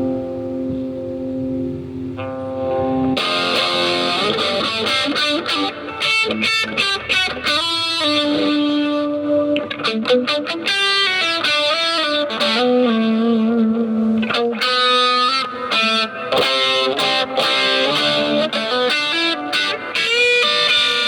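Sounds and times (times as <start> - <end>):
electric guitar notes: 0.0 - 21.0.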